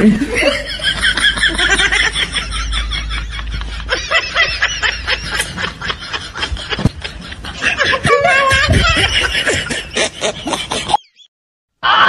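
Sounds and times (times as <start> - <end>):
man laughing: 0.3 - 11.2.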